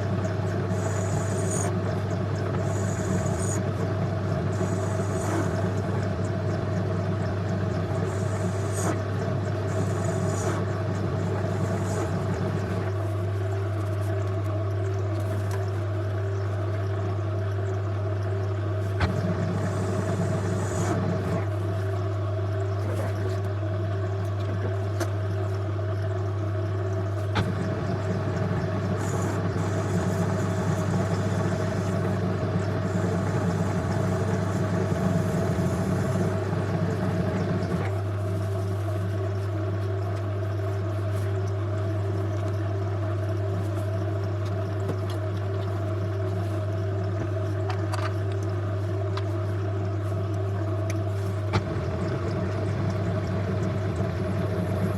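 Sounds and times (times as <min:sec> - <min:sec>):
lathe motor humming: 0:00.0 - 0:16.2, 0:18.2 - 0:54.9.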